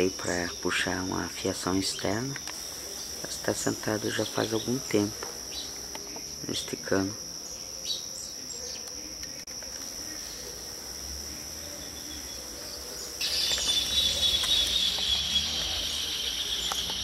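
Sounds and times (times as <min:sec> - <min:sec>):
hissy insect buzz: 0:00.0 - 0:17.0
insects chirring: 0:00.0 - 0:17.0.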